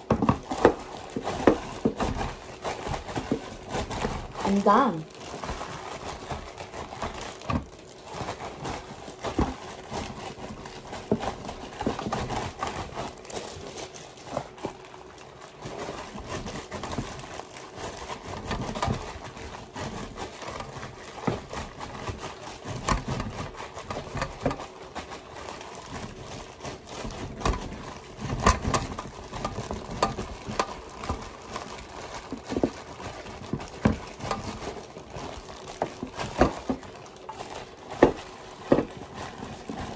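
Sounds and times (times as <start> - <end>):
plastic glove crinkling: 0.0 - 39.9.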